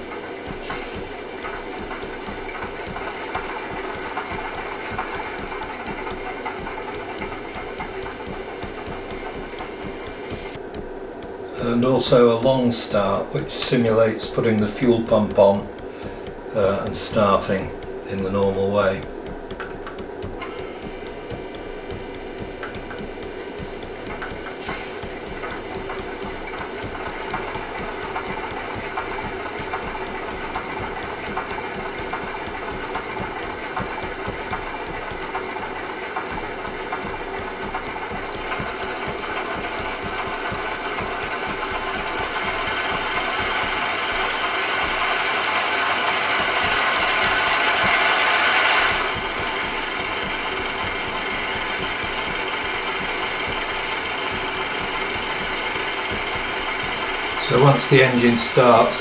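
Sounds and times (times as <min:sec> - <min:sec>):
model locomotive fuel pump: 0:00.0 - 0:59.0.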